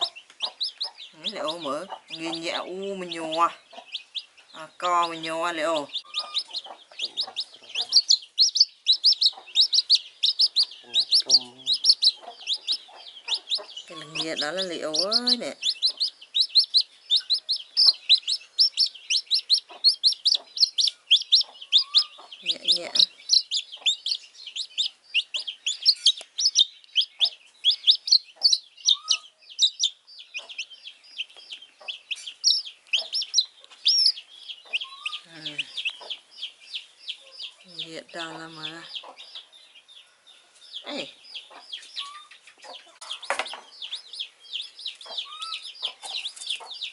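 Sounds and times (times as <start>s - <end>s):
chick peeping: 0.0s - 46.9s.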